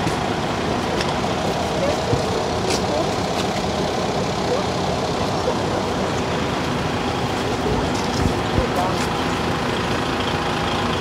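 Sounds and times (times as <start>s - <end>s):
road vehicles running: 0.0s - 11.0s.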